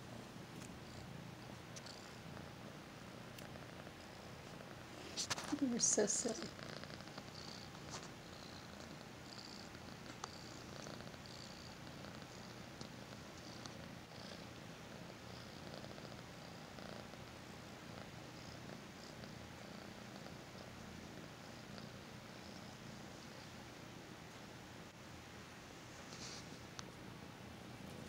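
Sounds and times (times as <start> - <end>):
kitten purring: 0.4 - 24.9, 26.0 - 28.0.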